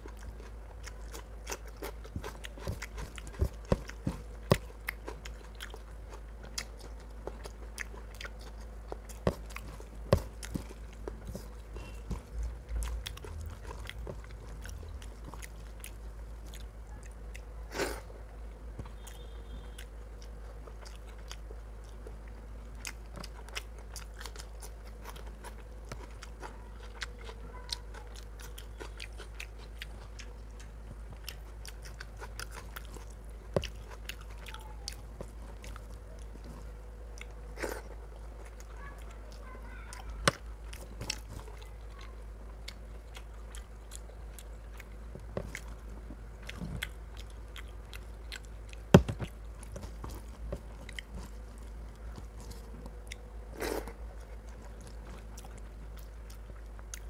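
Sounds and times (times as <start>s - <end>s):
chewing and biting: 0.0s - 18.1s, 18.8s - 57.0s.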